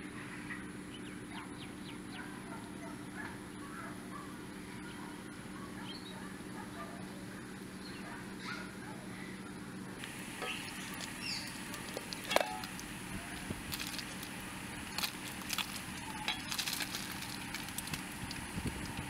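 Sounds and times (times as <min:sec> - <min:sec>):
birds calling: 0:00.0 - 0:19.0
steady low hum: 0:00.0 - 0:19.0.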